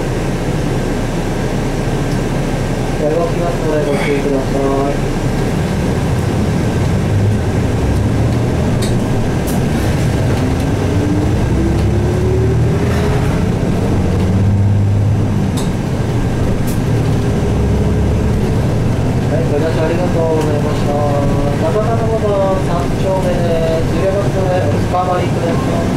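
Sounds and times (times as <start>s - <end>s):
bus diesel engine whining: 0.0s - 25.9s.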